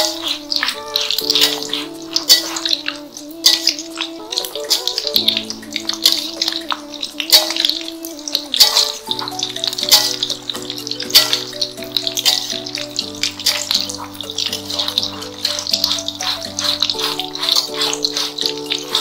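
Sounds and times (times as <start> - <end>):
background music with steady beat: 0.0 - 19.0
fritters sizzling in oil: 0.0 - 19.0.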